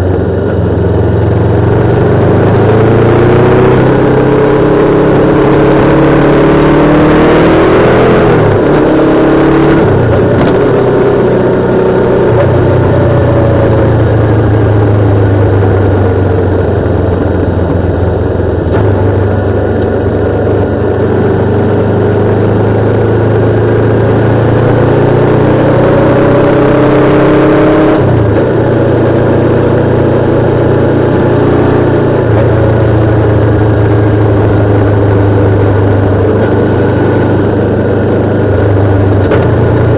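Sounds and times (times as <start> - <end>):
steady rush of noise: 0.0 - 39.9
motorcycle engine under load: 7.4 - 39.9.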